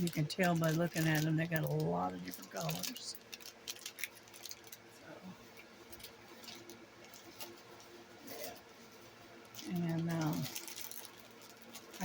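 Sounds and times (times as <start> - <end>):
low steady hum: 0.0 - 12.0
plastic packages crinkling: 0.0 - 12.0.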